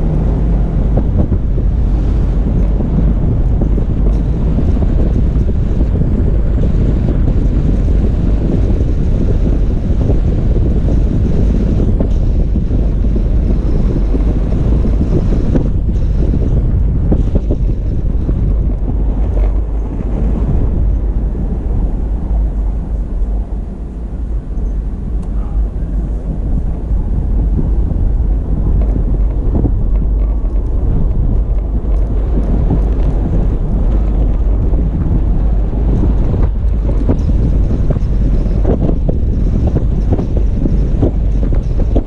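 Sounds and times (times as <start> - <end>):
engine and tyres rumbling: 0.0 - 42.0
wind buffeting microphone: 0.0 - 42.0.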